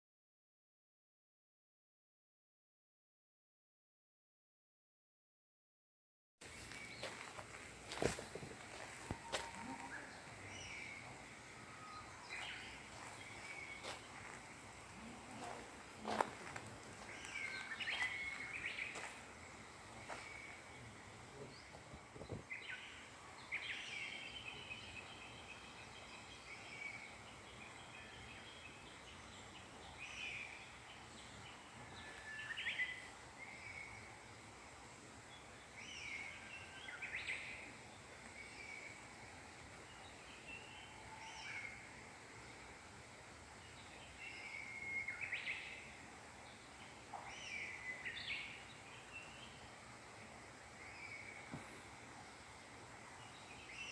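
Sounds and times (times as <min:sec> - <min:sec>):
small songbirds chirping: 0:06.4 - 0:53.9.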